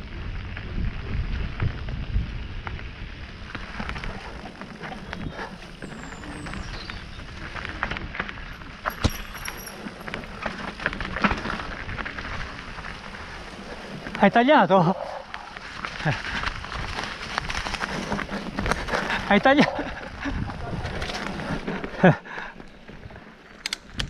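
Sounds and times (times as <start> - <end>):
bike tyres over stones: 0.0 - 24.0
wind rumbling on microphone: 0.0 - 24.0
bike rattling and knocking: 3.4 - 24.0.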